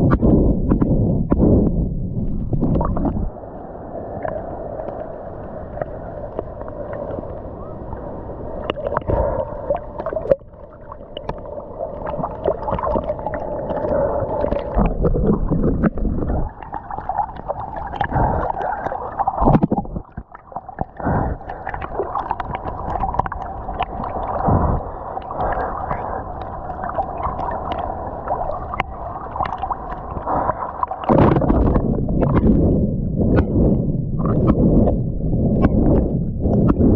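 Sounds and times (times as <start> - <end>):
water sloshing and gurgling: 0.0 - 36.9
water splashes: 0.0 - 36.9.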